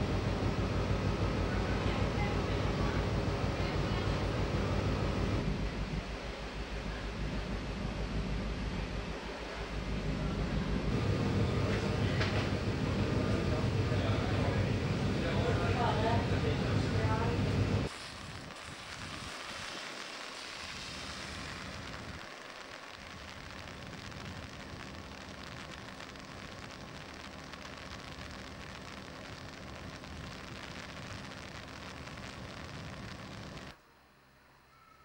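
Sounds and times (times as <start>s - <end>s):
faint low hum: 0.0s - 19.7s, 20.4s - 35.0s
ship engine and ventilation drone: 0.0s - 34.5s.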